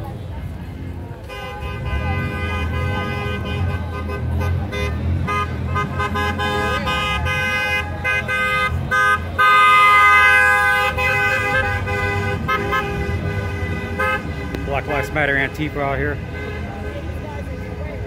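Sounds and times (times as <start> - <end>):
passing traffic rumble: 0.0 - 18.0
car horns honking: 1.2 - 17.6.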